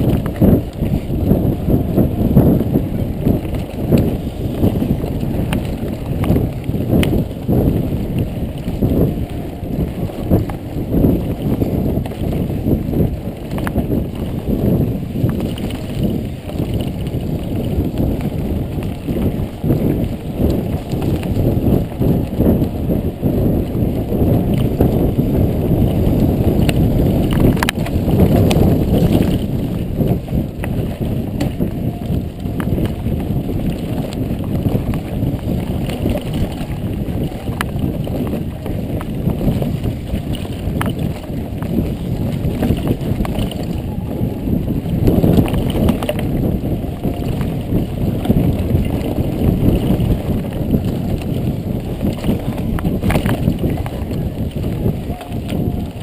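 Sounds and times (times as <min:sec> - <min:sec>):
bike rattling over ground: 0:00.0 - 0:56.0
wind rumble on microphone: 0:00.0 - 0:56.0.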